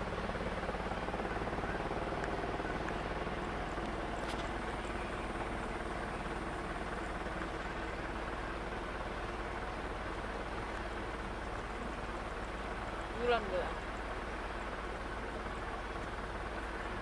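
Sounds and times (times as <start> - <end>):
airliner engines droning in cabin: 0.0 - 17.0.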